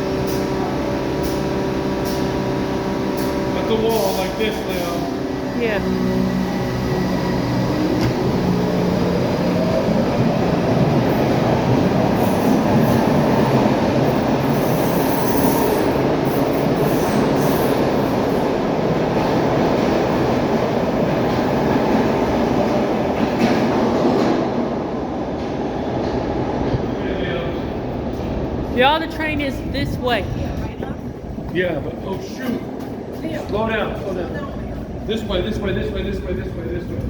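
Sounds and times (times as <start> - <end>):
train motors and wheels rumbling: 0.0 - 37.0.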